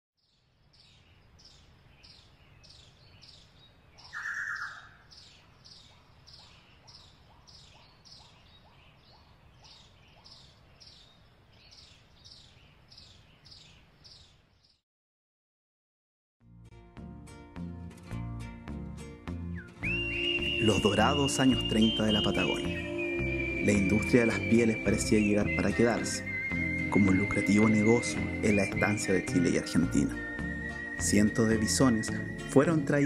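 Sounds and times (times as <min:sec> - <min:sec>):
bird chirping rapidly: 0:00.2 - 0:14.8, 0:19.9 - 0:33.0.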